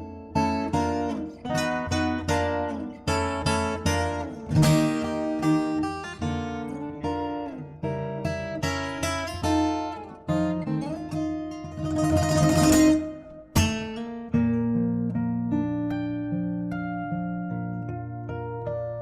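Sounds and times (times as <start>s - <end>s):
acoustic guitar plucked and strummed: 0.0s - 19.0s.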